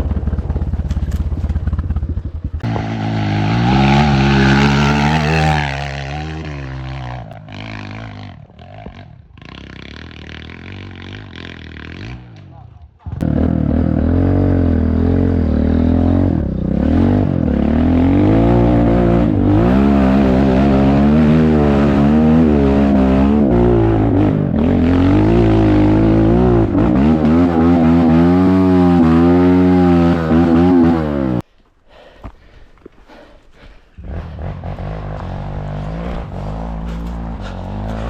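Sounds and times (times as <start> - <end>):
motorcycle engine revving: 0.0 - 31.4, 34.0 - 38.0.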